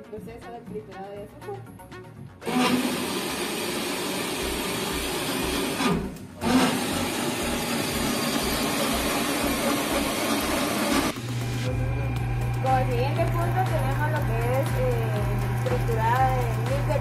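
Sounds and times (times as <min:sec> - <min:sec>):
grain mill grinding sugar: 0:02.4 - 0:17.0.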